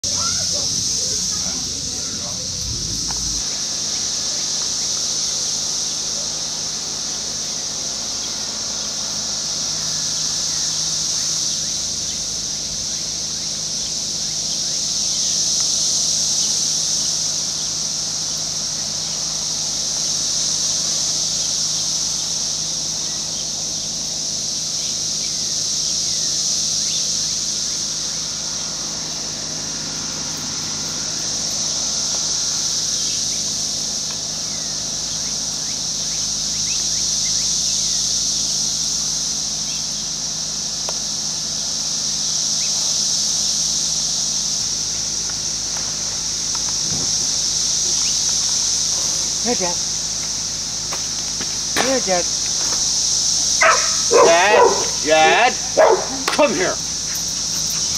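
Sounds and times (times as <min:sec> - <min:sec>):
cicadas buzzing chorus: 0:00.0 - 0:57.9.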